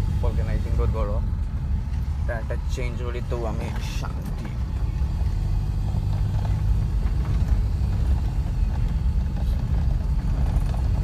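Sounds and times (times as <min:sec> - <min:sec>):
engine and road noise rumble: 0:00.0 - 0:11.0.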